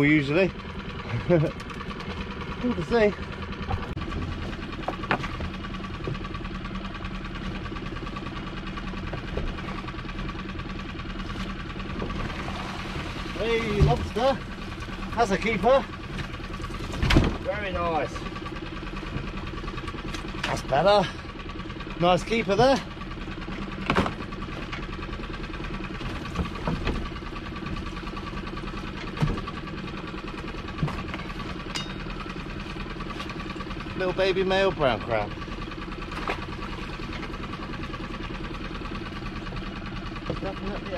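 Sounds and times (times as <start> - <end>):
boat engine idling: 0.0 - 40.9
gear knocking against boat: 0.6 - 40.9.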